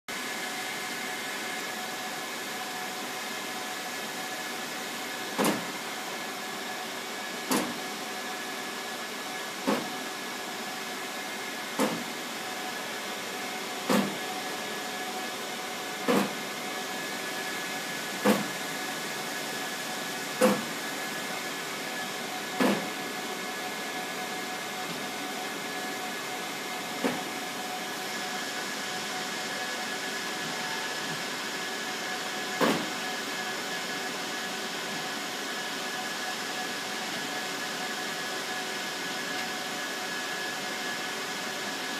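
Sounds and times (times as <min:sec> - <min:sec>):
printer humming: 0:00.2 - 0:41.9.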